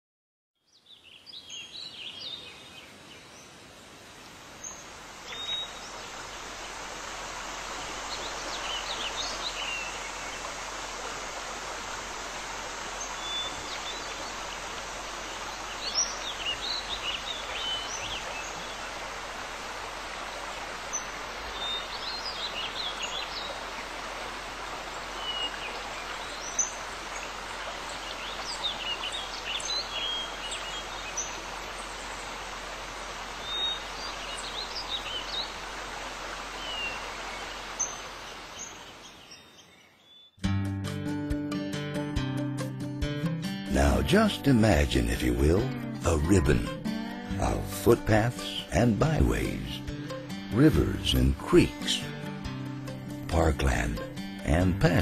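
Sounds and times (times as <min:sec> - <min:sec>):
songbirds chirping: 0:00.6 - 0:40.4, 0:43.4 - 0:55.0
stream water rushing: 0:01.4 - 0:39.5, 0:43.7 - 0:55.0.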